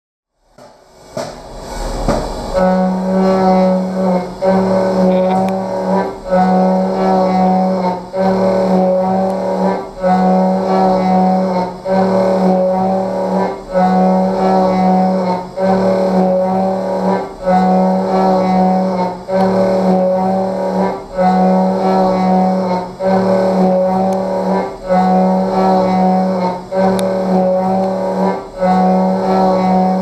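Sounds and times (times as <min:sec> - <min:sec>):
milling machine cutting metal: 0:01.9 - 0:30.0.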